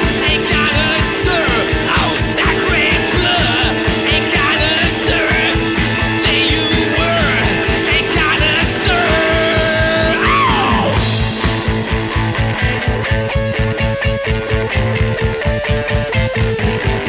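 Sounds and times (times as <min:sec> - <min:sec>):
rock song with drums guitar singing: 0:00.0 - 0:17.0.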